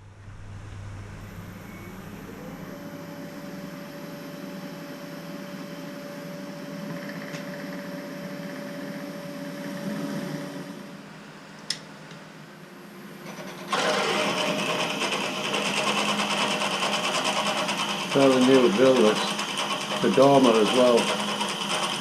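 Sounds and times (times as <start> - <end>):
electric drill whine: 0.0 - 10.9, 13.3 - 22.0.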